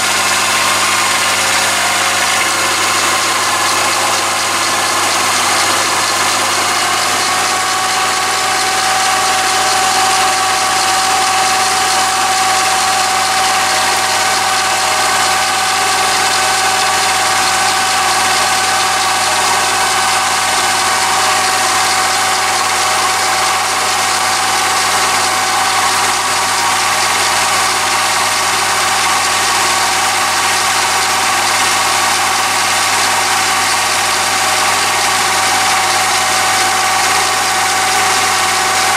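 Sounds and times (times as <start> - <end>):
lathe motor whine: 0.0 - 38.9
tool cutting steel: 0.0 - 38.9.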